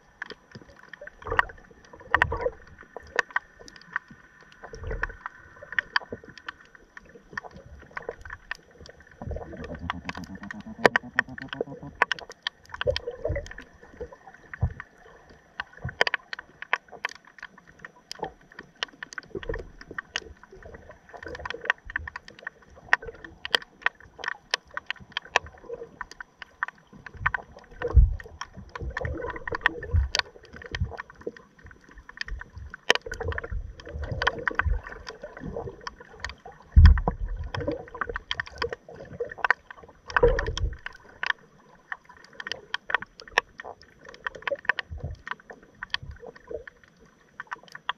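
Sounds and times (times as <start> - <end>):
sharp clicks and crackles: 0.0 - 47.9
water moving underwater: 0.0 - 47.9.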